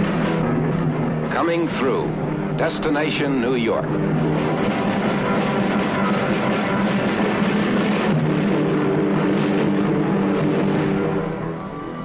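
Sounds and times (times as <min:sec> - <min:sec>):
film music with held chords: 0:00.0 - 0:12.0.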